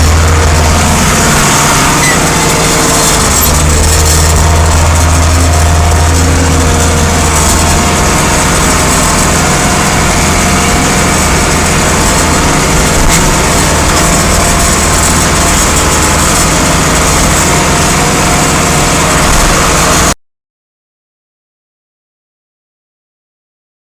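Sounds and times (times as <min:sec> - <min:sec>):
tractor engine running: 0:00.0 - 0:20.2.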